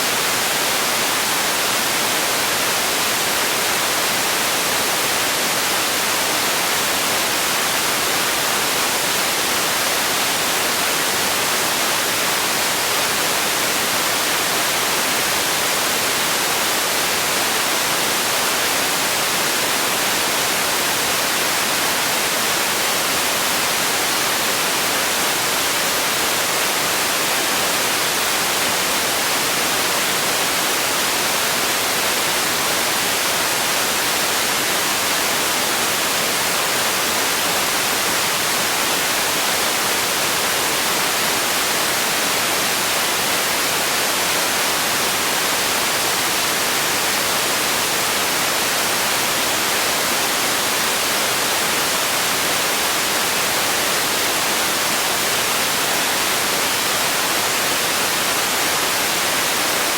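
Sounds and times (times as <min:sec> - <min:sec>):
constant even hiss: 0:00.0 - 0:59.9.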